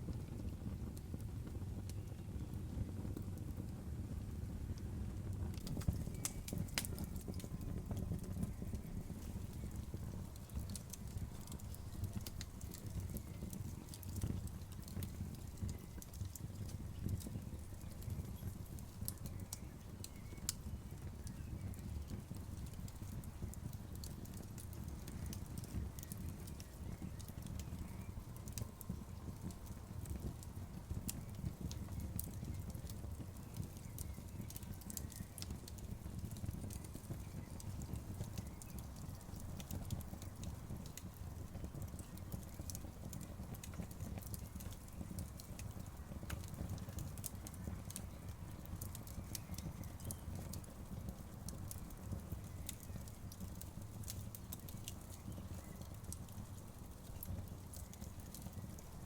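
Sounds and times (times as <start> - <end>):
bonfire crackling: 0.0 - 59.0.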